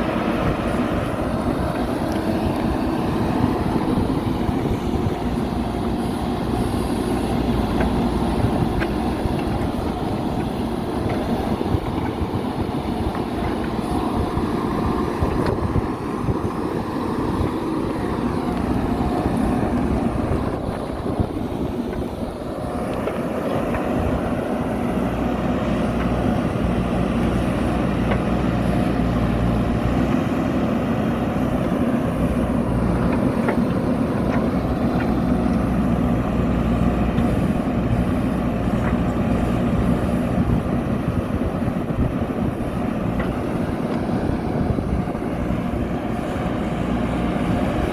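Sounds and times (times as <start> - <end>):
diesel engine running and revving: 0.0 - 47.9.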